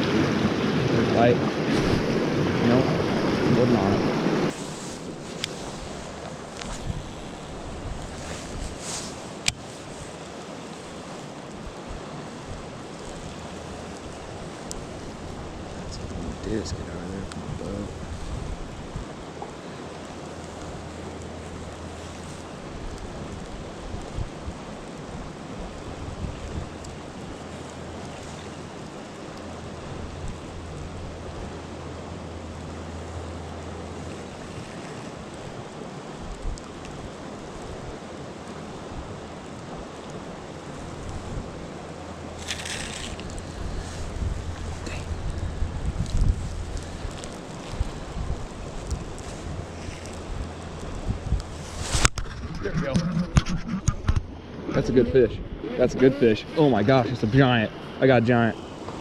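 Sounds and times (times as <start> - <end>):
rushing wind and water: 0.0 - 59.0.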